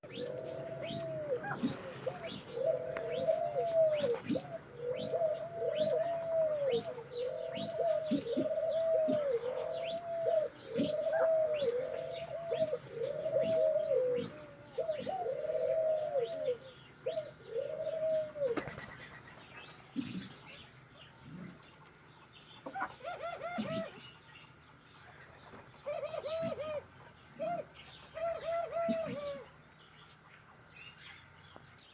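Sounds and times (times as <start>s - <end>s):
birds cooing: 0.0s - 31.9s
small birds chirping: 0.0s - 31.9s.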